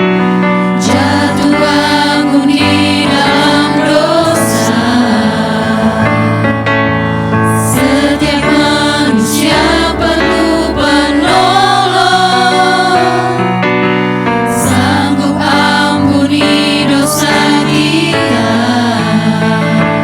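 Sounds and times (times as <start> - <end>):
choir singing: 0.7 - 6.8, 7.5 - 13.8, 14.5 - 20.0.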